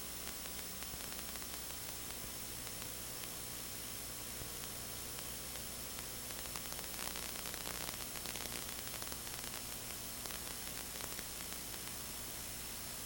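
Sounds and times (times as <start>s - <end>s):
light crackles: 0.0s - 13.0s
static hiss: 0.0s - 13.0s.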